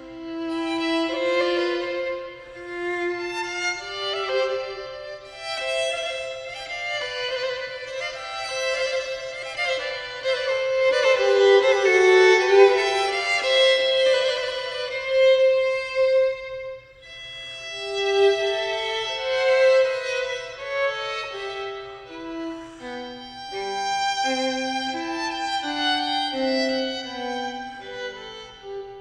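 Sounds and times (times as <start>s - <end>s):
two violins playing classical duet: 0.0s - 29.0s.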